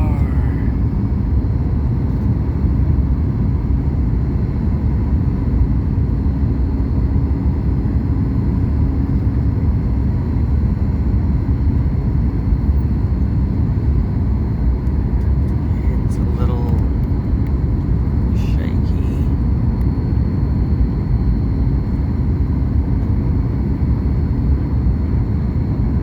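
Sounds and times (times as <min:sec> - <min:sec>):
aircraft cabin engine rumble: 0:00.0 - 0:26.0
faint constant hum: 0:00.0 - 0:26.0.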